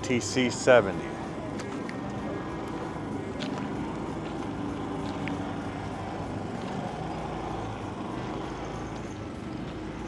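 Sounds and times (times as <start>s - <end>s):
engine humming: 0.0s - 10.0s
outdoor background noise: 0.0s - 10.0s.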